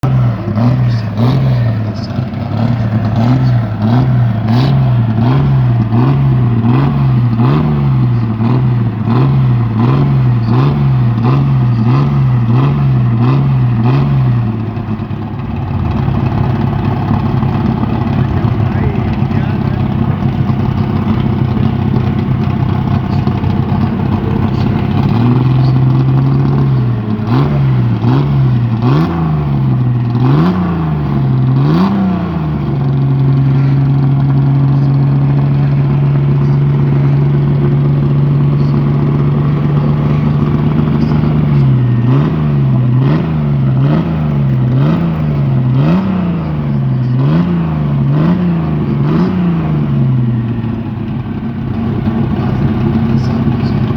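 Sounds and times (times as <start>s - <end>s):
racing engine revving: 0.0s - 53.9s.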